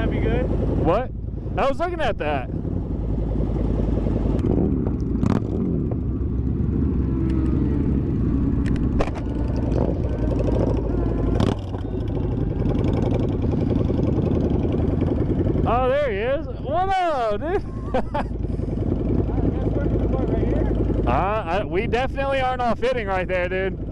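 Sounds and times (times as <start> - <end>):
vehicle engines rumbling: 0.0 - 23.9.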